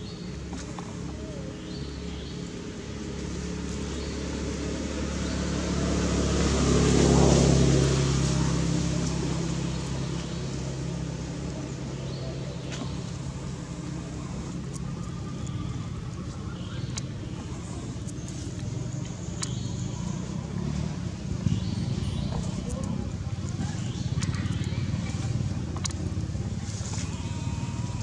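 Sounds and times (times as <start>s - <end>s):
vehicle engine passing by: 2.8s - 28.0s.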